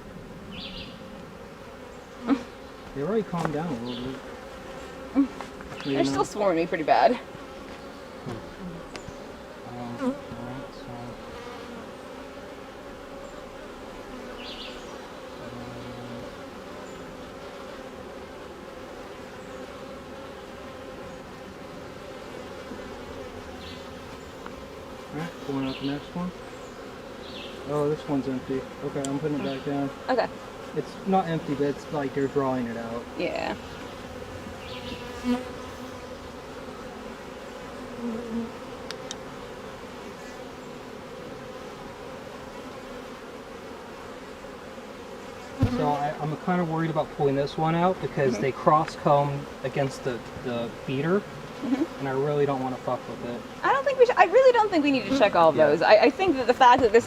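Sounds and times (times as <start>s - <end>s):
honeybees buzzing: 0.0s - 57.0s
lower louder buzz: 0.0s - 57.0s.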